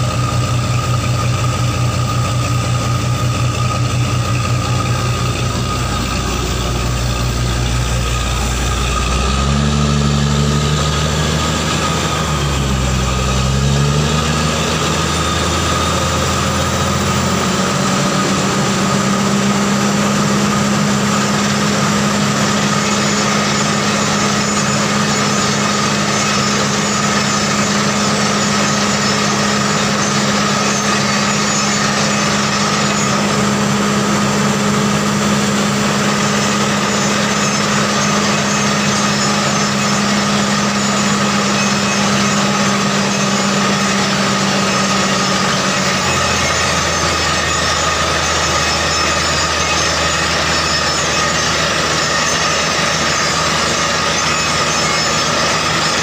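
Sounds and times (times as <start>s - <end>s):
drilling rig engine drone: 0.0s - 56.0s.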